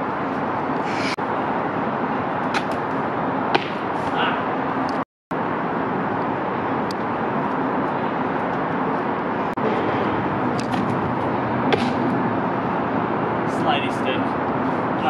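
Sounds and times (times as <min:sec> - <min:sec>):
freeway traffic roar: 0:00.0 - 0:15.0.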